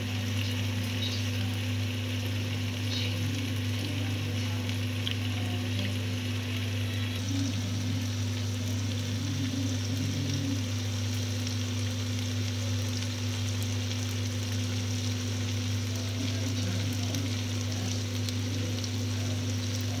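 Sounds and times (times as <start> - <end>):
food sizzling in a frying pan: 0.0 - 20.0
steady low hum: 0.0 - 20.0.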